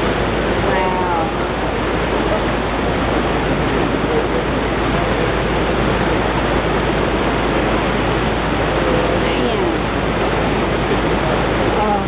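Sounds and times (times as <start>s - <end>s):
river floodwater roaring: 0.0s - 12.0s.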